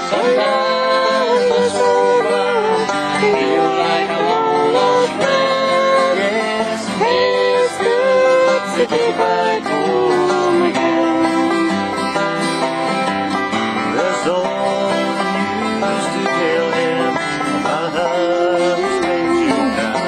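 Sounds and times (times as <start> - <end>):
man singing sliding notes: 0.0 - 11.8, 13.9 - 20.0
banjo folk tune: 0.0 - 20.0.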